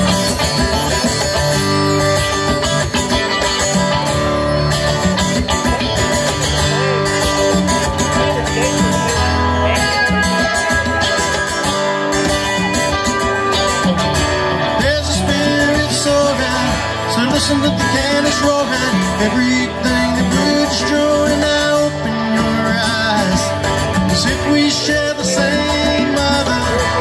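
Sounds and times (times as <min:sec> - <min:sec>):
acoustic guitar: 0:00.0 - 0:27.0
drums: 0:00.0 - 0:27.0
electric guitar: 0:00.0 - 0:27.0.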